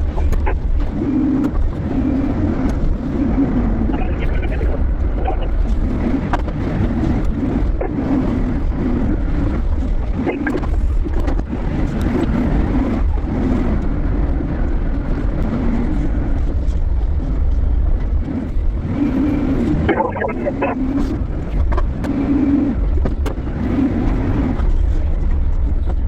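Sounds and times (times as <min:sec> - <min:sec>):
heavy engine droning: 0:00.0 - 0:16.6, 0:17.5 - 0:25.1.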